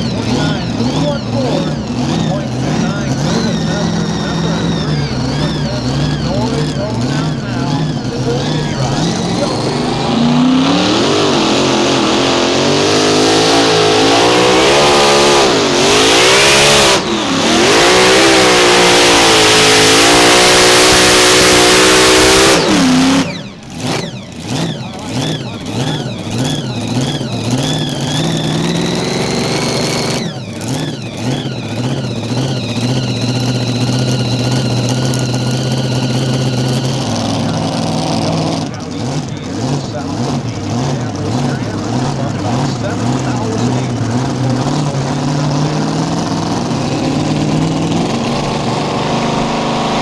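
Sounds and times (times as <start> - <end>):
tractor engine at full throttle: 0.0 - 50.0.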